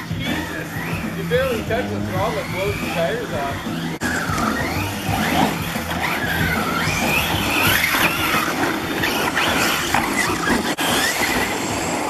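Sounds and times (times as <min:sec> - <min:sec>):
electric toy car motors whining: 0:00.0 - 0:12.0.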